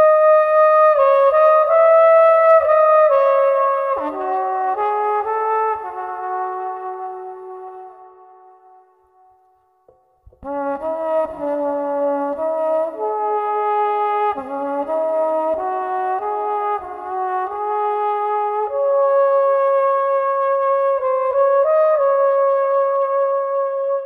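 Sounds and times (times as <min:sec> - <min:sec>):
solo trumpet melody: 0:00.0 - 0:24.0.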